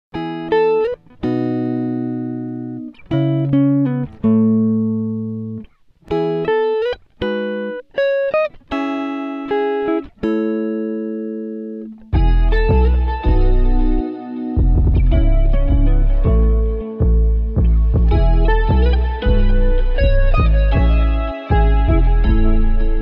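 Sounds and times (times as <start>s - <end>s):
plucked guitar playing slow chords: 0.2s - 23.0s.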